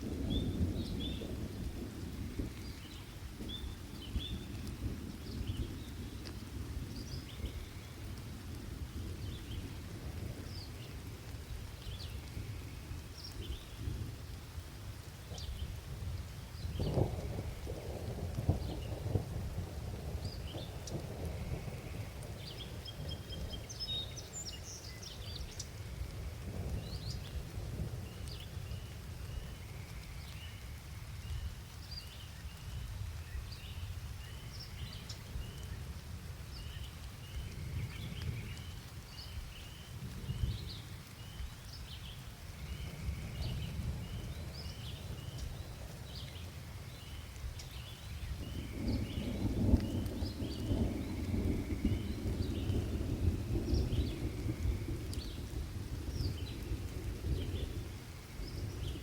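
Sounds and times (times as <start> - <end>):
distant thunder rumbling: 0.0 - 14.3, 15.0 - 30.0, 40.0 - 59.0
rain: 0.0 - 59.0.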